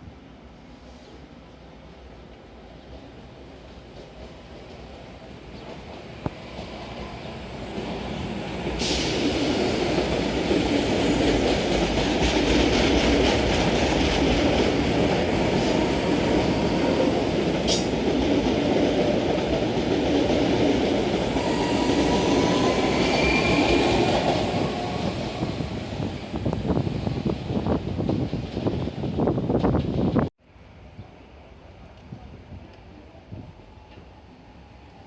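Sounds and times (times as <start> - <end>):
train wheels rumbling on rails: 0.4 - 30.3.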